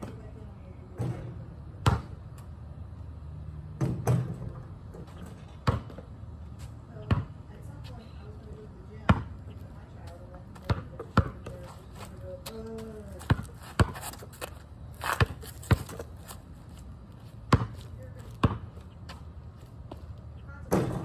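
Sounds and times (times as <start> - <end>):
basketball bouncing on asphalt: 1.0 - 2.6, 3.7 - 8.0, 8.9 - 21.0.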